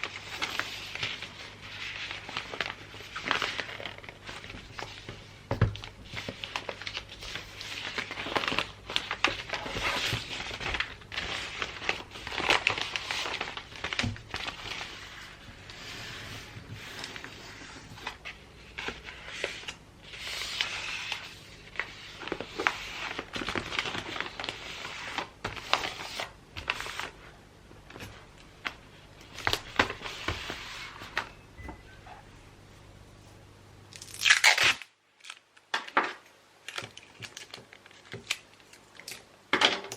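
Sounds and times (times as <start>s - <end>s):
wrapping paper crinkling: 0.0s - 31.3s, 33.9s - 35.9s, 36.6s - 39.3s.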